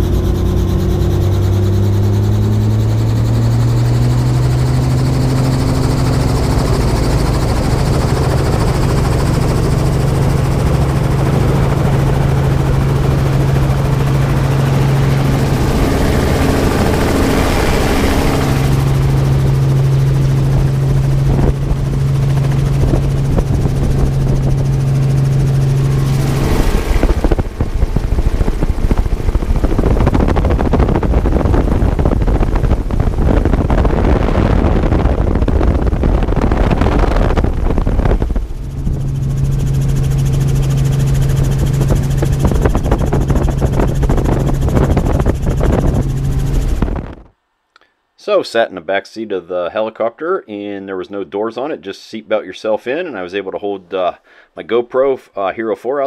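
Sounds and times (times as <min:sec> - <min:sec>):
wind buffeting microphone: 0:00.0 - 0:47.3
helicopter engine and rotor drone: 0:00.0 - 0:47.4.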